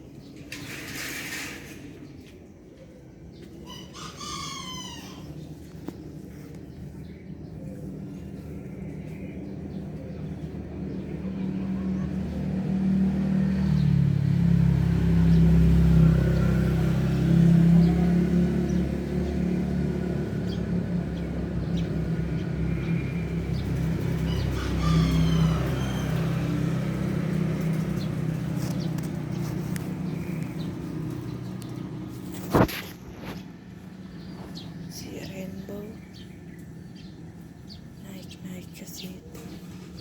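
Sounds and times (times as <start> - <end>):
vehicle engine humming: 5.1 - 40.0.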